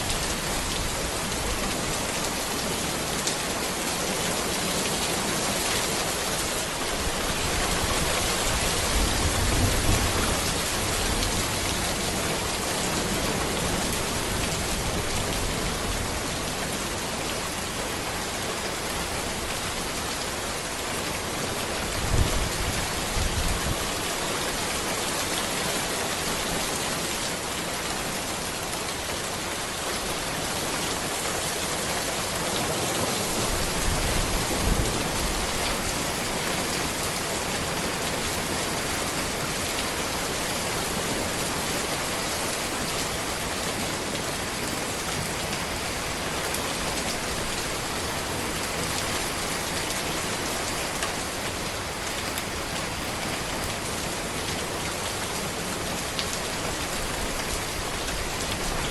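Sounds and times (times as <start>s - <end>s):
rain falling on a road: 0.0s - 58.9s.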